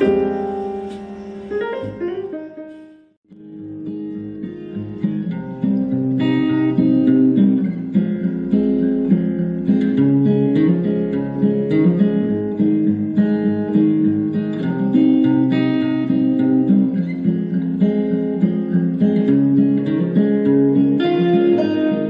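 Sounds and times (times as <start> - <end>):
country music with acoustic guitar: 3.4 - 22.0.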